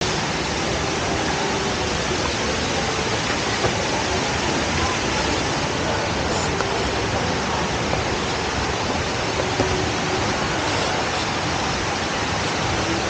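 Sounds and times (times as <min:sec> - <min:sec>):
indoor waterfall rushing: 0:00.0 - 0:13.0.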